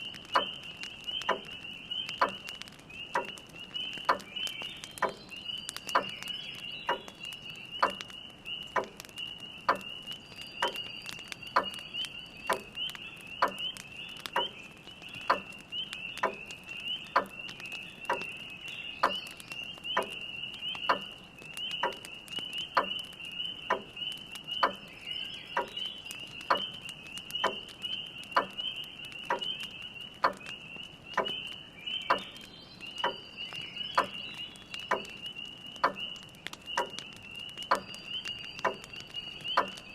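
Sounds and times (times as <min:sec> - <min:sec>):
spring peepers calling: 0:00.0 - 0:39.9
wood fire crackling: 0:00.0 - 0:39.9.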